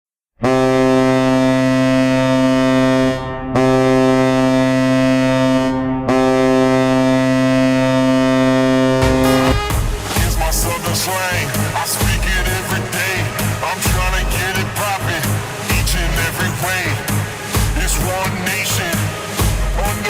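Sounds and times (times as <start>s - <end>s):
deep goal horn blasts: 0.4s - 20.0s
loud music: 2.3s - 20.0s.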